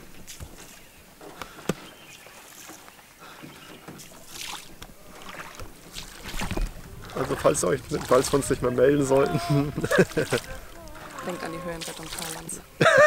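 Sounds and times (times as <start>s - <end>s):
oar strokes splashing: 0.0s - 13.0s.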